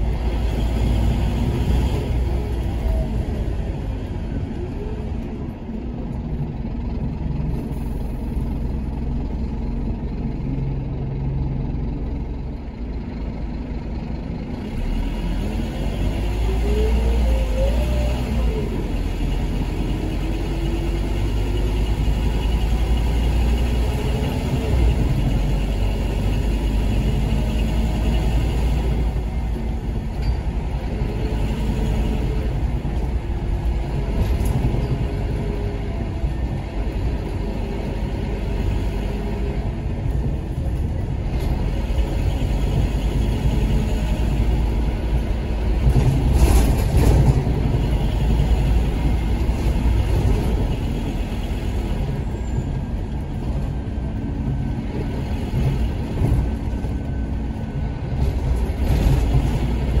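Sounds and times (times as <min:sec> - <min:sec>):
bus engine rumble: 0:00.0 - 1:00.0.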